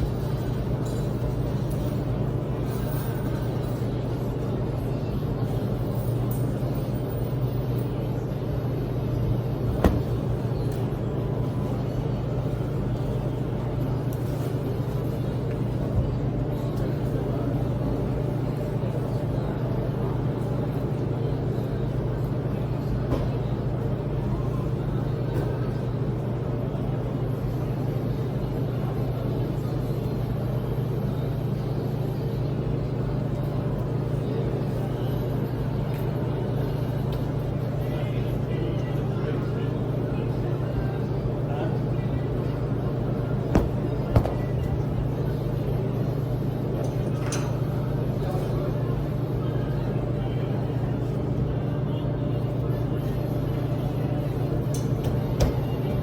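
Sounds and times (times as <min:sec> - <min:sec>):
hum of laundromat machines: 0:00.0 - 0:56.0.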